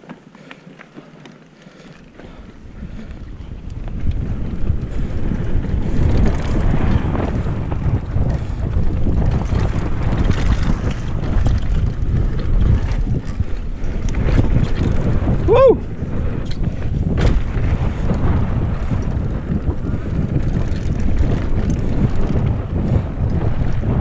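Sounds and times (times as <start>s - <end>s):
bike rumbling and rattling on dirt: 0.0s - 24.0s
wind buffeting microphone: 1.6s - 24.0s.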